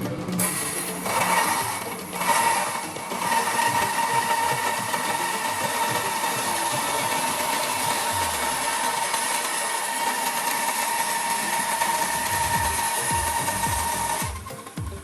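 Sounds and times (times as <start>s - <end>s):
power tool motor whining: 0.4s - 14.8s.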